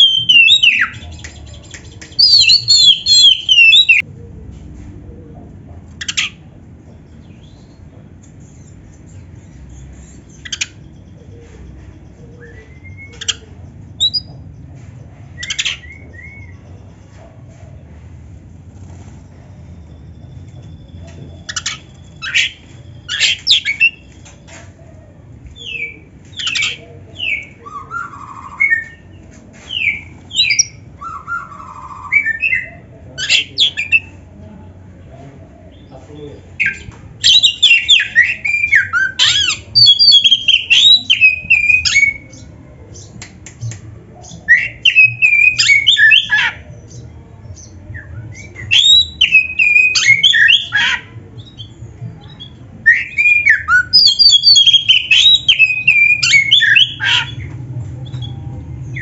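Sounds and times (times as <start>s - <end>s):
magpie-robin singing: 0.0s - 4.0s, 5.9s - 14.7s, 15.3s - 17.2s, 18.8s - 34.3s, 35.4s - 59.0s.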